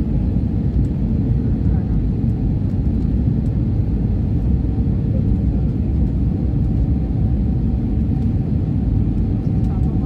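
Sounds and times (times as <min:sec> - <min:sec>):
airliner engine rumble in cabin: 0:00.0 - 0:10.0.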